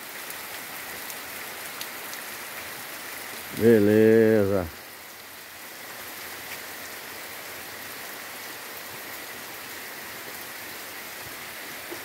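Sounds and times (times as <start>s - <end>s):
heavy rain on trees and grass: 0.0s - 12.0s.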